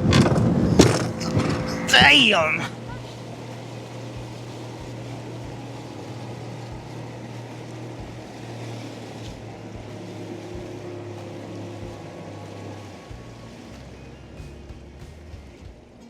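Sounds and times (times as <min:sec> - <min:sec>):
outboard motor running: 0:00.0 - 0:16.0
rushing wind and water: 0:00.0 - 0:16.0.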